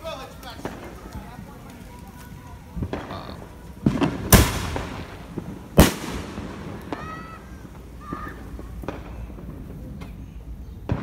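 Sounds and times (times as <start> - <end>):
fireworks loud bangs: 0.0 - 11.0
fireworks small pops: 0.1 - 11.0.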